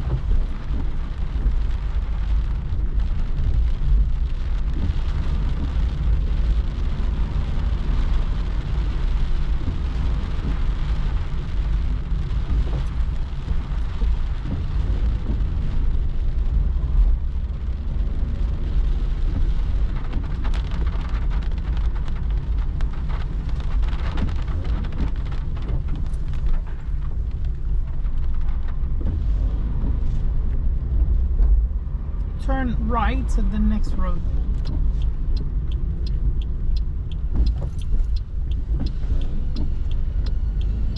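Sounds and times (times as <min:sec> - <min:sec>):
rain falling on a car: 0:00.0 - 0:40.9
road and engine rumble: 0:00.0 - 0:40.9.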